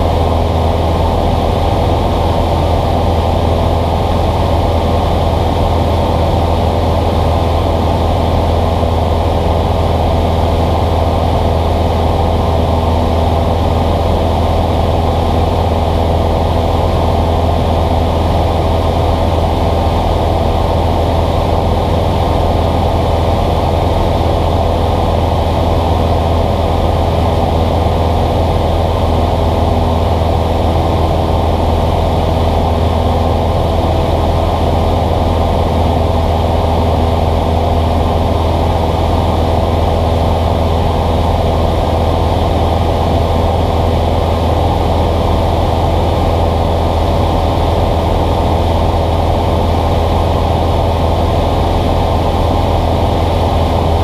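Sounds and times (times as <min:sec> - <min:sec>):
airplane engine drone in cabin: 0:00.0 - 0:54.0.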